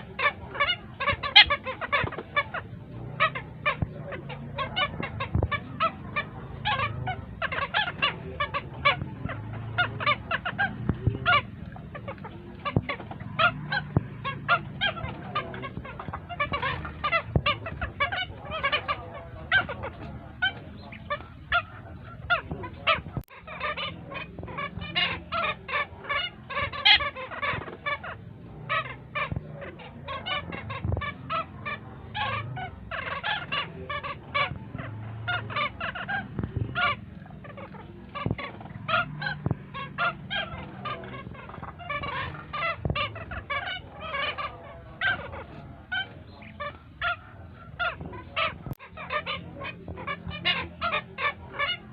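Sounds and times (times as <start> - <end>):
wading bird chicks squawking: 0.0 - 51.9.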